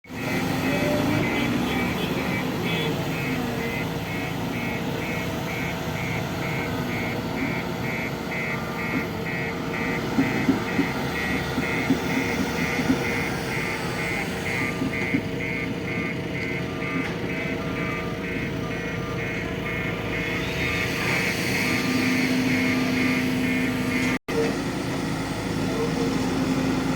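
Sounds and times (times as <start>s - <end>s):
heavy diesel machinery running: 0.0s - 26.9s
high warning beeps: 0.1s - 24.2s.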